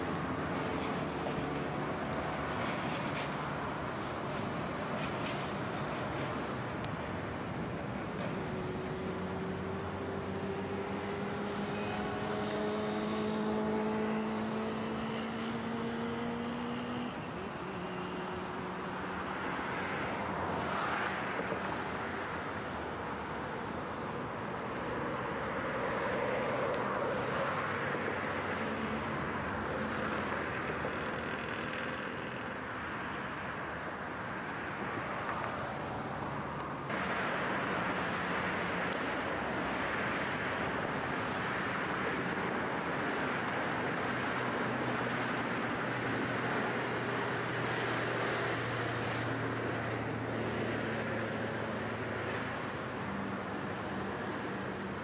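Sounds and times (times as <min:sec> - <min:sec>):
rail yard rumble and hiss: 0:00.0 - 0:11.1, 0:18.9 - 0:55.0.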